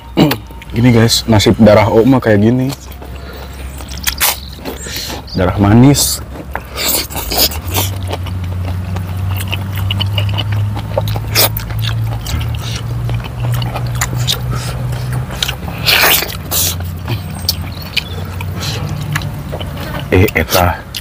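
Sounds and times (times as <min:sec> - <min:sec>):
people chewing and lip-smacking: 0:00.0 - 0:21.0.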